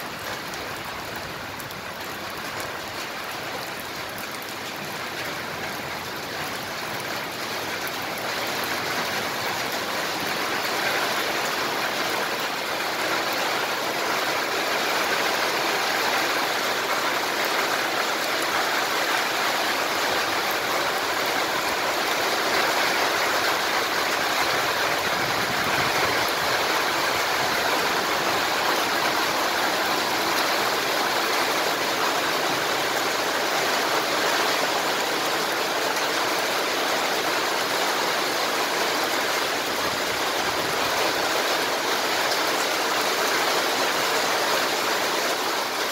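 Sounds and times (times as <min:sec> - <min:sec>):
heavy rain on paving stones: 0:00.0 - 0:45.9.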